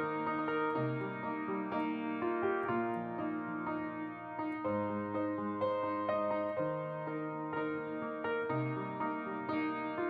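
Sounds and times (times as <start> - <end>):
upright piano chords: 0.0 - 10.0.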